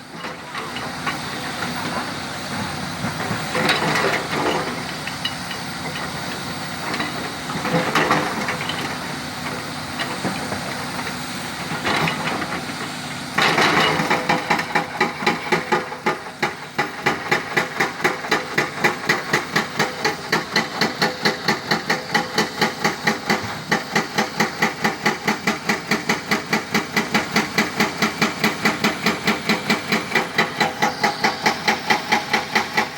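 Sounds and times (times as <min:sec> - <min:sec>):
excavator engine running: 0:00.0 - 0:32.9.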